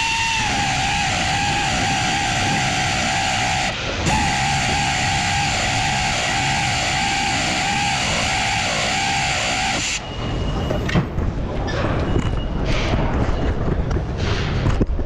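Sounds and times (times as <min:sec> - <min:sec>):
workshop noise: 0:00.0 - 0:15.0.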